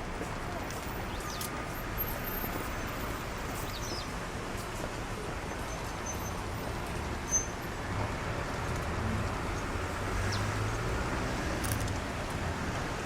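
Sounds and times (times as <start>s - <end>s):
distant traffic hum: 0.0s - 13.0s.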